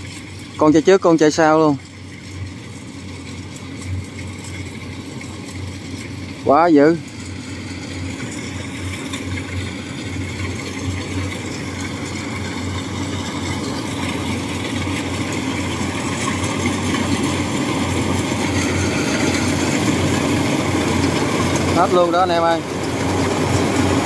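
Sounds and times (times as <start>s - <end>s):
combine harvesters running: 0.0s - 24.0s.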